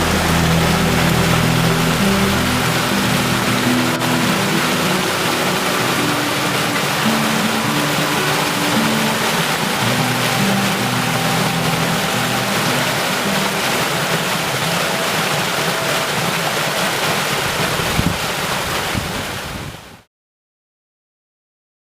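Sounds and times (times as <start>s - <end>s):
waterfall rushing: 0.0s - 20.1s.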